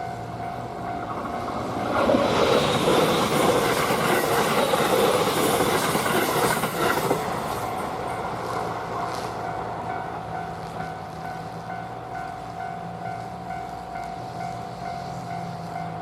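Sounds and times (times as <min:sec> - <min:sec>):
crossing warning bell: 0:00.0 - 0:16.0
train wheels clattering on rails: 0:00.0 - 0:16.0.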